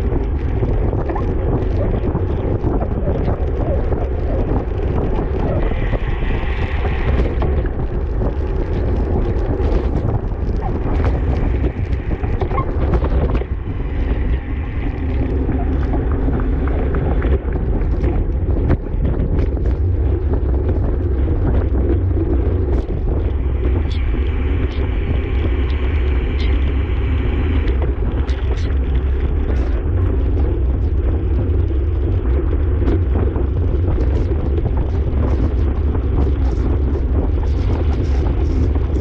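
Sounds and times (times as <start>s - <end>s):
bicycle road and drivetrain noise: 0.0s - 39.0s
wind buffeting microphone: 0.0s - 39.0s.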